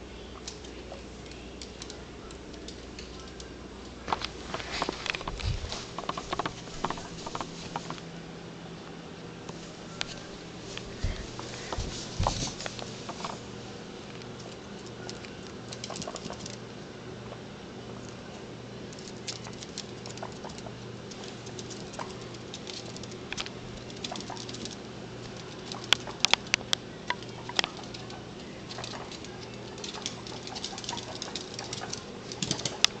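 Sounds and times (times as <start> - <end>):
guinea pig claws clicking on floor: 0.4 - 8.1, 10.0 - 13.4, 14.0 - 16.7, 18.8 - 33.0.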